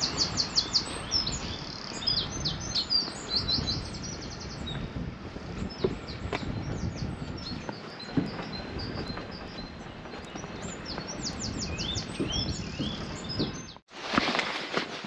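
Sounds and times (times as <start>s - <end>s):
songbirds chirping: 0.0s - 13.9s
footsteps: 0.0s - 15.0s.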